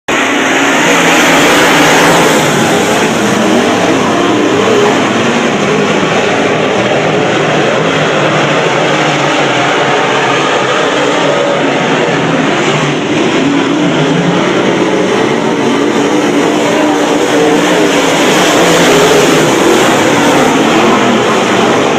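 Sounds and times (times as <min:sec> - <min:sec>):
race car engines running: 0:00.1 - 0:21.9.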